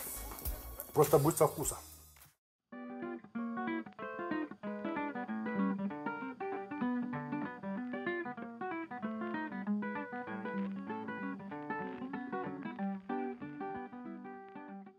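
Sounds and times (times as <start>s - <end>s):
plucked string music: 2.8s - 14.9s.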